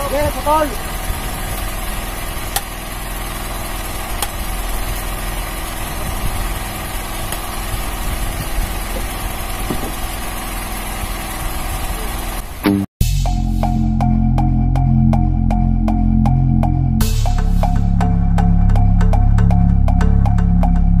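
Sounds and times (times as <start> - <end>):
boat engine droning: 0.0 - 12.8, 13.6 - 21.0.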